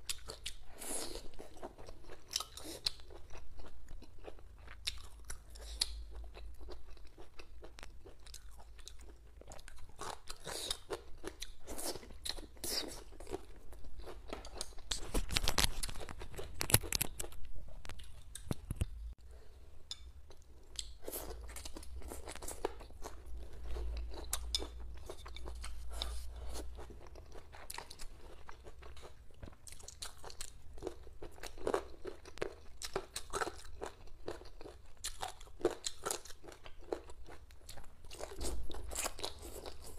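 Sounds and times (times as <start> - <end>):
person chewing and crunching: 0.0 - 19.2, 19.9 - 39.9.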